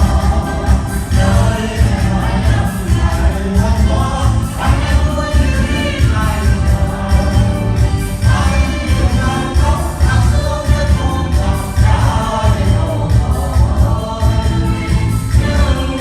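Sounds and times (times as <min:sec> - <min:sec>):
group of voices singing: 0:00.0 - 0:16.0
music with heavy bass beat: 0:00.0 - 0:16.0.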